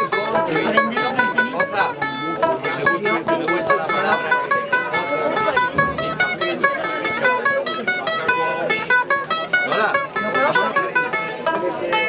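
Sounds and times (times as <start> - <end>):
plucked string instruments: 0.0 - 12.0.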